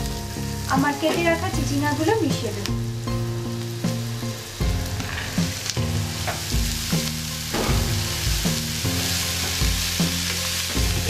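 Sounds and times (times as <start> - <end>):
background music: 0.0 - 11.0
hot oil sizzling: 0.0 - 11.0.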